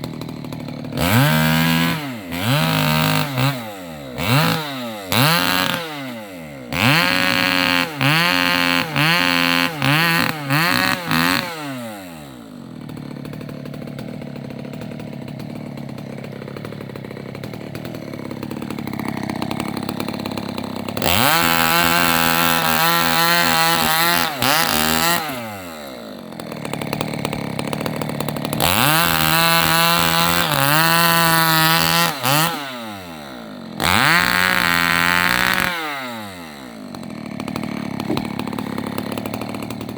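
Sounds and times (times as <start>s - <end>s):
chainsaw revving and cutting: 0.0s - 39.9s.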